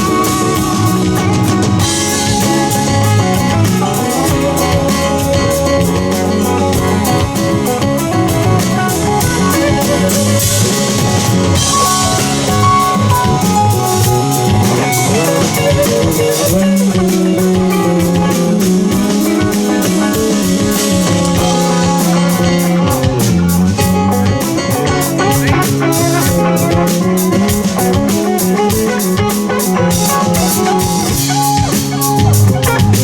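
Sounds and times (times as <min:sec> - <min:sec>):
bass guitar: 0:00.0 - 0:33.0
drum kit beat: 0:00.0 - 0:33.0
electric guitar: 0:00.0 - 0:33.0.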